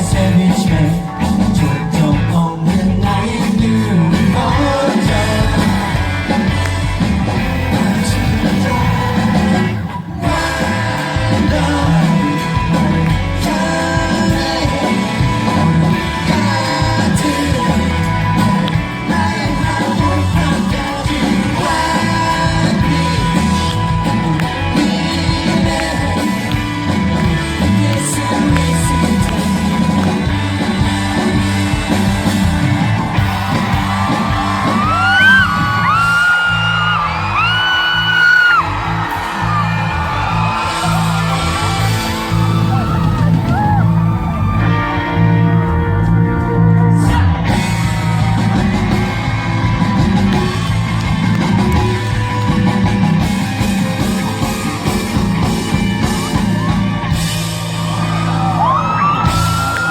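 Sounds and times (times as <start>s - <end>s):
live rock band with singing: 0.0s - 59.9s.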